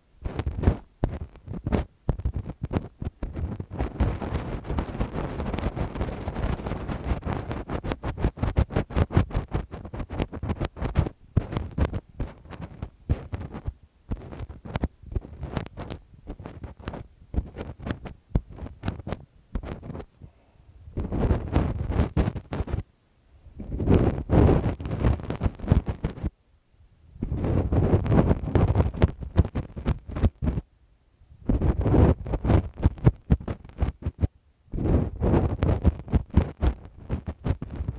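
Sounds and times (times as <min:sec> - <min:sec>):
scratches and rubs on microphone: 0:00.0 - 0:20.3, 0:20.9 - 0:22.9, 0:23.6 - 0:26.4, 0:27.2 - 0:37.9.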